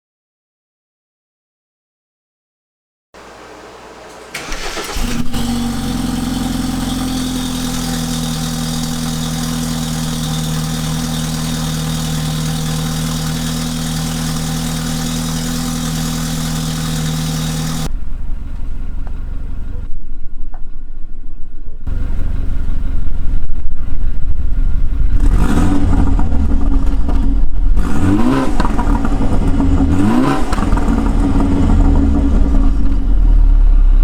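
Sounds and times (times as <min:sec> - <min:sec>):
car engine cranking and idling: 0:03.2 - 0:20.7, 0:21.9 - 0:34.0
uneven low engine rumble: 0:03.2 - 0:34.0.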